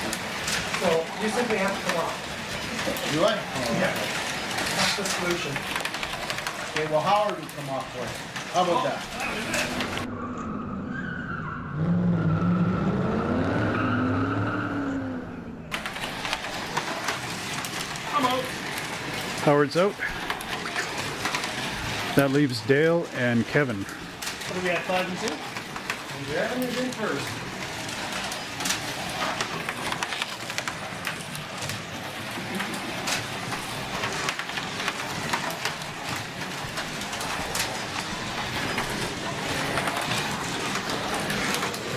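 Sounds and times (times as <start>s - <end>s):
slot car motors whining: 0.0s - 22.9s, 23.6s - 41.9s.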